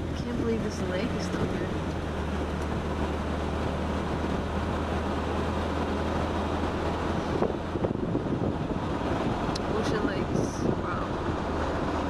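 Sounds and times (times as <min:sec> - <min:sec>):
car engine drone: 0:00.0 - 0:12.0
road and tyre noise: 0:00.0 - 0:12.0
wind buffeting the microphone: 0:00.0 - 0:12.0.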